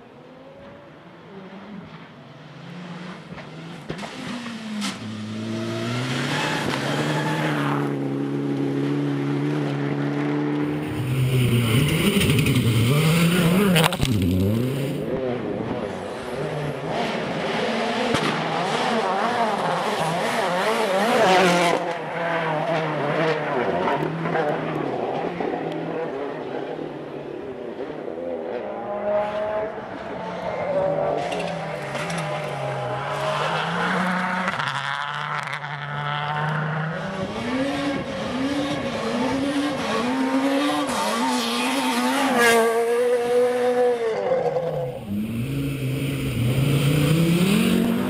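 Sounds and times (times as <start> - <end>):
rally car engine revving: 0.2 - 48.0.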